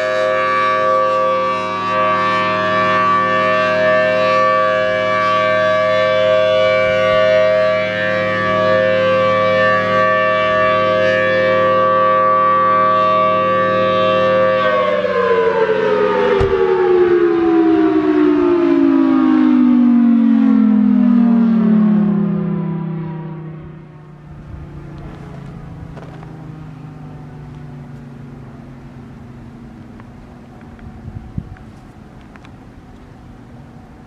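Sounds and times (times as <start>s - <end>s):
warning siren two-note tone: 0.0s - 34.0s.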